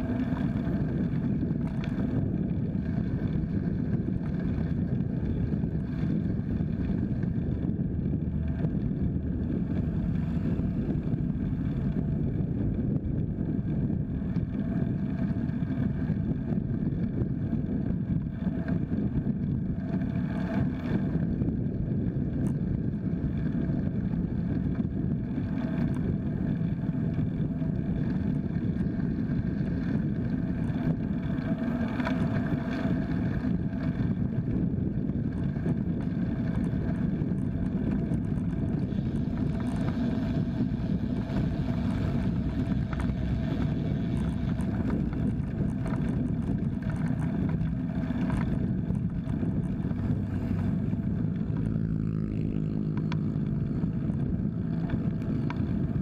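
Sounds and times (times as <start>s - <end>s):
passing vehicle engine hum: 0.0s - 56.0s
tyre and road noise: 0.0s - 56.0s
wind rumble on microphone: 0.0s - 56.0s.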